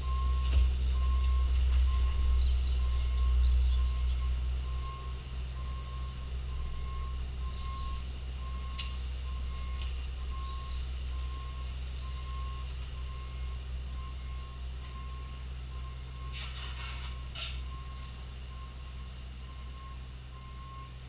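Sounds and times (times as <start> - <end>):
backup alarm beeping: 0.0 - 16.4, 17.1 - 21.0
diesel engine drone: 0.0 - 21.0.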